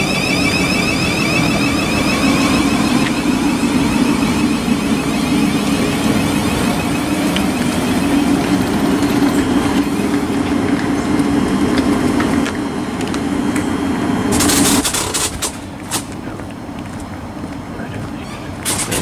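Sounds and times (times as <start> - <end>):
train equipment humming: 0.0 - 19.0.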